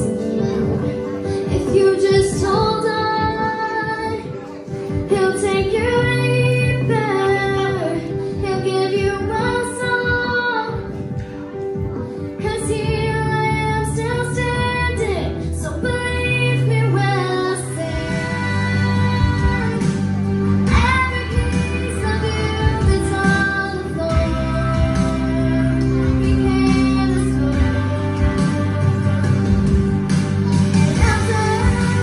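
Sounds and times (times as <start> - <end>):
girl singing: 0.0 - 32.0
instrumental backing track: 0.0 - 32.0.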